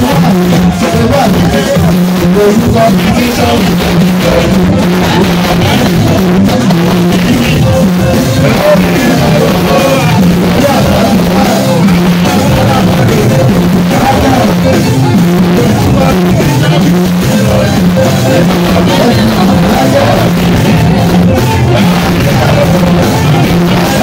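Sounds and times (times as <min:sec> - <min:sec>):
man singing into microphone: 0:00.0 - 0:24.0
stepping bass line: 0:00.0 - 0:24.0.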